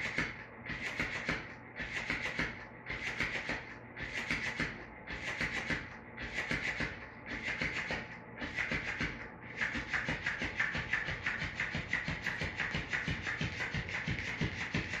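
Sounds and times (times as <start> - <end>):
toy tail slapping tile floor: 0.0 - 15.0.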